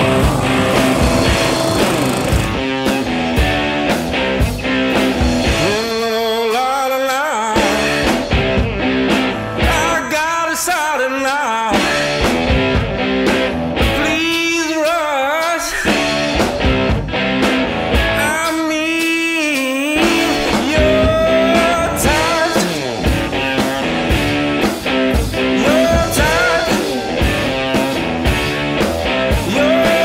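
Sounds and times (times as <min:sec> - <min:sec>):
rock song with singer: 0:00.0 - 0:30.0.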